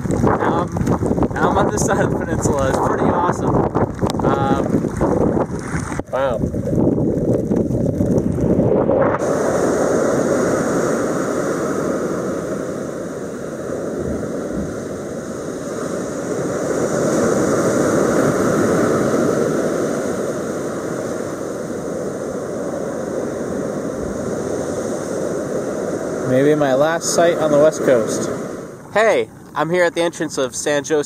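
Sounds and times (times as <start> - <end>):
surf washing up pebble beach: 0.0 - 30.8.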